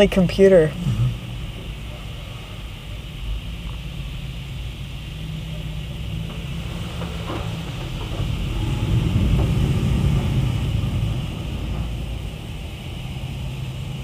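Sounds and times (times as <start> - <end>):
car wash machinery rumbling: 0.0 - 14.0
hiss of spraying water: 0.1 - 14.0.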